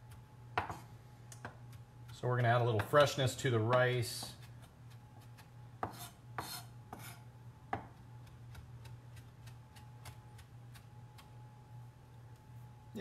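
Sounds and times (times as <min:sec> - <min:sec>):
knife chopping on cutting board: 0:00.1 - 0:01.8, 0:02.4 - 0:11.3.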